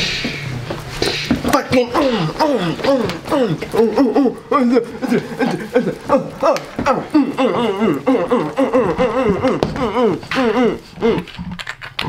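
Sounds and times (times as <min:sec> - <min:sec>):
young person vocalizing sing-song: 0:01.1 - 0:11.6.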